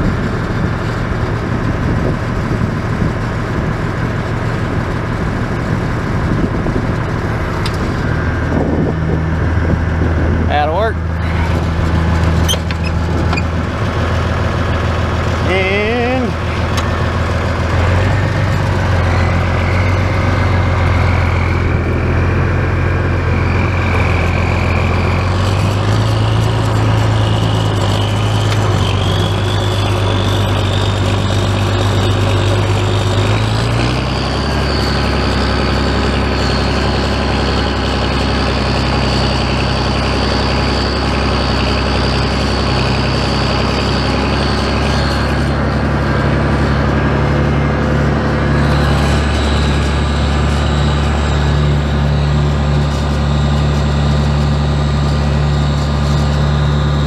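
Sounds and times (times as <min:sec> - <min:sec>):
tractor engine running: 0:00.0 - 0:57.0
thin high whine: 0:09.6 - 0:57.0.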